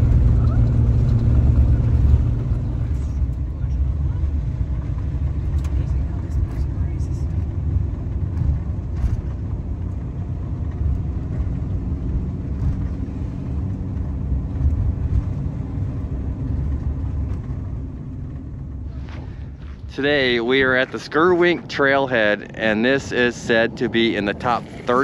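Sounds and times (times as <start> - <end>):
van engine and tyres rumbling: 0.0 - 25.0.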